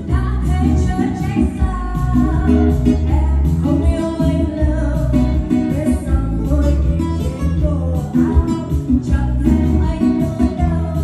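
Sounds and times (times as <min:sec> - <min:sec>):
keyboard backing with bass and beat: 0:00.0 - 0:11.0
woman singing into a microphone: 0:00.0 - 0:11.0.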